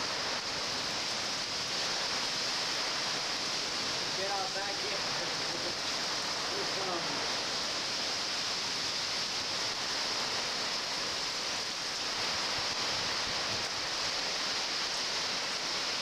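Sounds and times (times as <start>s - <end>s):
heavy rain: 0.0s - 16.0s
hurricane wind: 0.0s - 16.0s.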